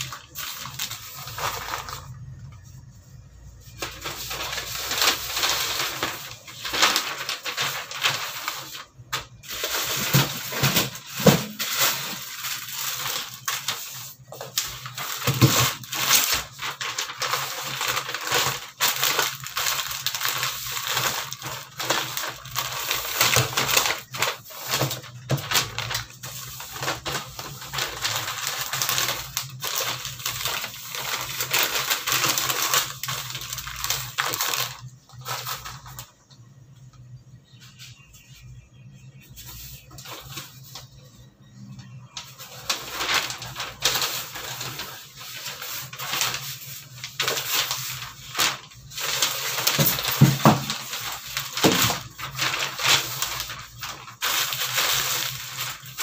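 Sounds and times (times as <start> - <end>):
newspaper rustling and crinkling: 0.0 - 56.0.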